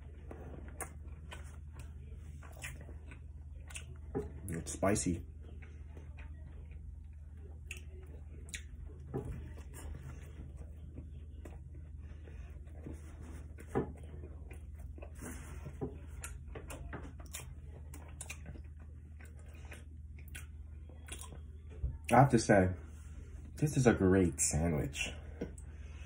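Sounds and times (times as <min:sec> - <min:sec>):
person chewing food: 0:00.0 - 0:22.2
steady low hum: 0:00.0 - 0:26.0.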